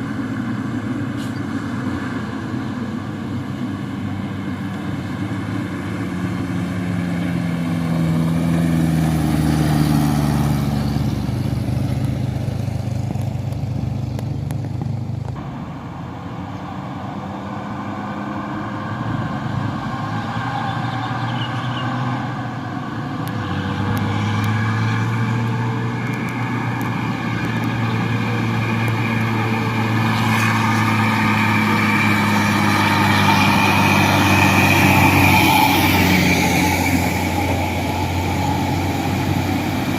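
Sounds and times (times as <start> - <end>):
trucks driving past: 0.0 - 39.9.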